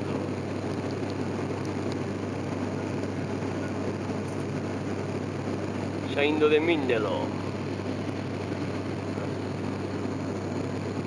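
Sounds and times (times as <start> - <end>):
propeller airliner cabin drone: 0.0 - 11.0.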